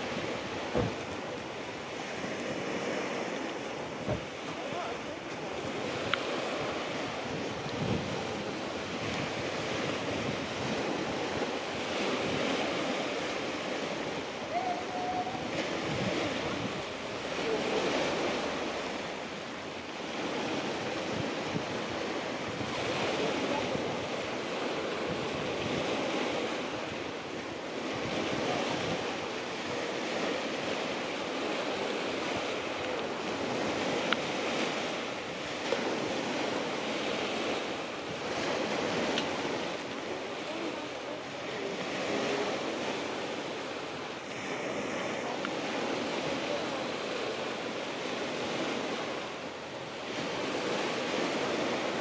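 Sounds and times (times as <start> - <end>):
sea surf breaking on beach: 0.0 - 52.0
wind on microphone: 0.0 - 52.0.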